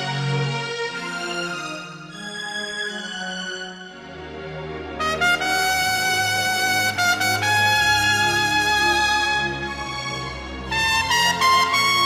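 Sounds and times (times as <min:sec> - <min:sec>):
slow instrumental music: 0:00.0 - 0:12.0.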